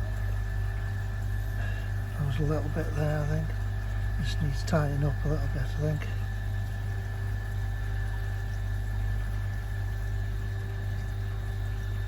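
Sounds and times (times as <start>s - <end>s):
pond water pump humming: 0.0s - 12.0s.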